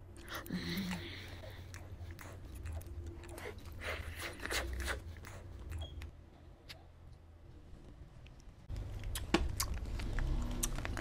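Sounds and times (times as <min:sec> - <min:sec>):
person chewing food: 0:00.0 - 0:06.2, 0:08.2 - 0:11.0.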